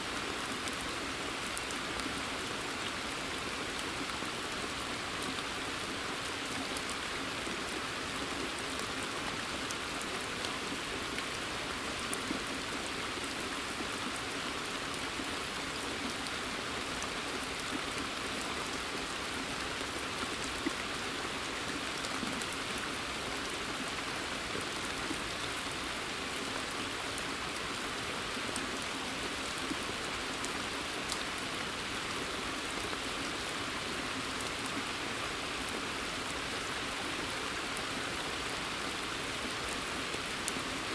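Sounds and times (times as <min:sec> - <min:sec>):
rain pattering on pond: 0:00.0 - 0:40.9.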